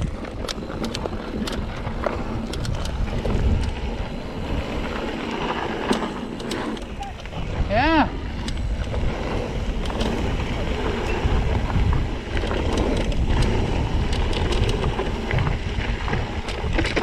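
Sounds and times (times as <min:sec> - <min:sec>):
bike rattling: 0:00.0 - 0:17.0
bike tyres crunching on dirt: 0:00.0 - 0:17.0
wind buffeting microphone: 0:00.0 - 0:17.0.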